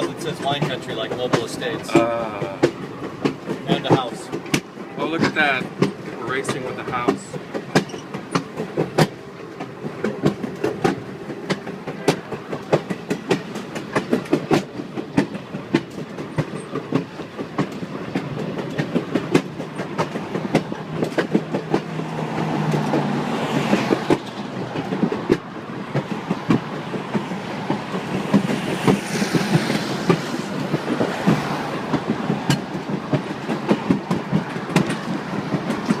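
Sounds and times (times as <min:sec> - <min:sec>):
train running rumble: 0:00.0 - 0:36.0
train wheels clicking over rail joints: 0:00.0 - 0:36.0.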